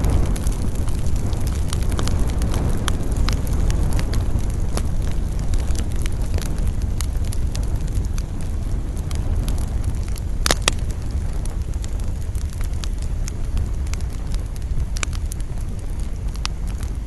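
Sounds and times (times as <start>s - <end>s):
campfire crackling and popping: 0.0s - 17.0s
wind: 0.0s - 17.0s.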